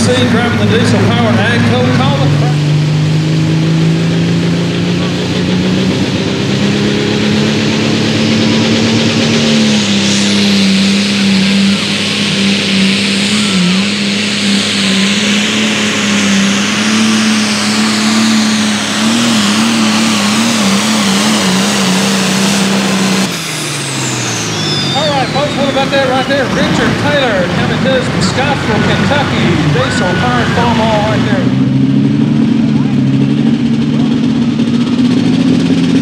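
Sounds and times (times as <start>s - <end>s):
tractor diesel engine under load: 0.0s - 36.0s.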